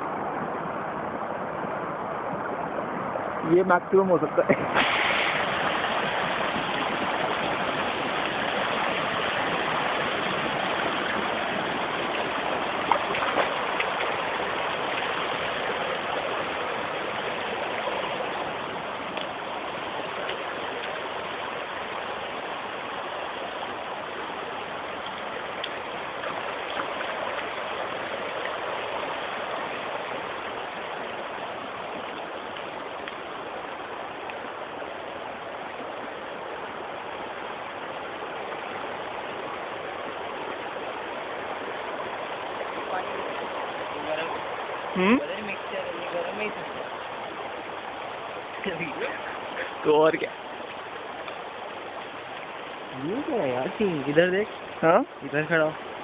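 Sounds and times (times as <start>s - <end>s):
water trickling over terraces: 0.0s - 56.0s.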